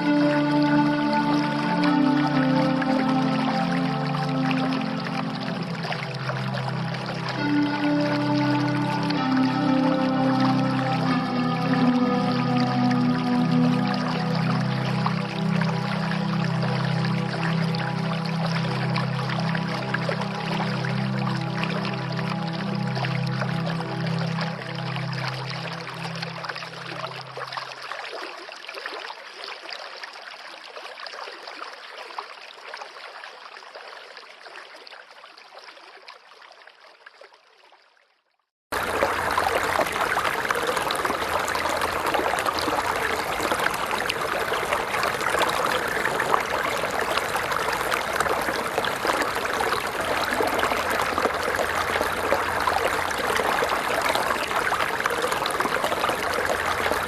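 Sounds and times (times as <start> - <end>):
stream water flowing: 0.0 - 38.0, 38.7 - 57.0.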